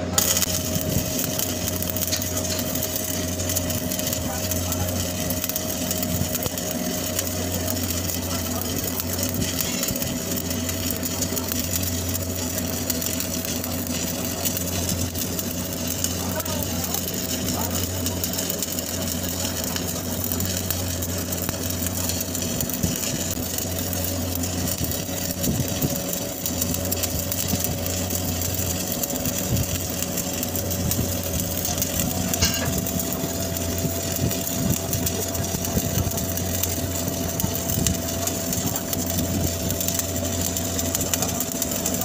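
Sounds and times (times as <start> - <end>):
machinery humming: 0.0 - 42.0
welding arc crackling: 0.0 - 42.0.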